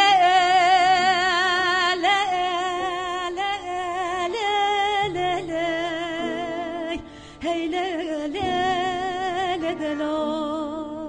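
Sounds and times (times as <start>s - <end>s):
woman singing folk song: 0.0s - 11.0s.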